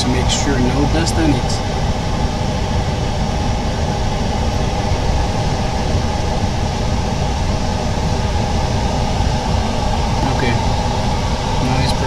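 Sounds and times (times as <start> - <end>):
machine humming with hiss: 0.0 - 12.0.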